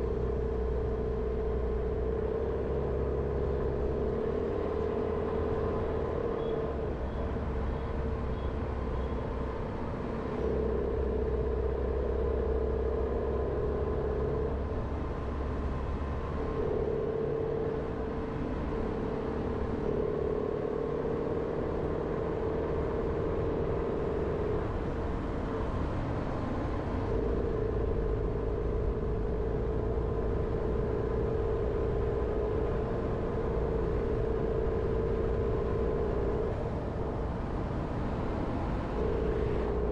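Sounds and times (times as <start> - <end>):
car engine driving: 0.0 - 39.9
road noise: 0.0 - 39.9.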